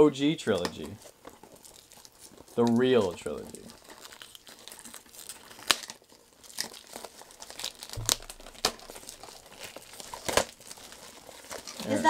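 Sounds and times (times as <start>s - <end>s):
packaging crinkling and ripping: 0.4s - 12.0s.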